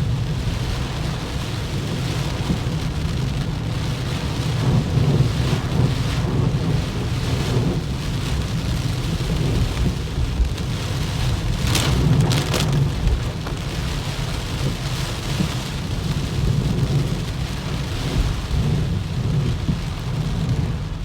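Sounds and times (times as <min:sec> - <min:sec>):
heavy rain pounding on car: 0:00.0 - 0:21.0
road and engine rumble: 0:00.0 - 0:21.0.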